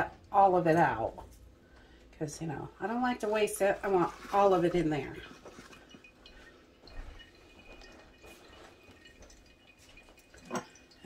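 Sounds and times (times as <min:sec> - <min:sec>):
liquid dripping through coffee filter: 0:00.0 - 0:11.0.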